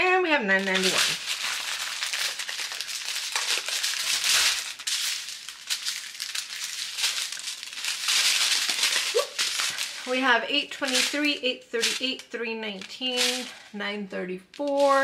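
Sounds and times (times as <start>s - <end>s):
plastic bags crinkling: 0.5s - 13.8s, 14.5s - 15.0s.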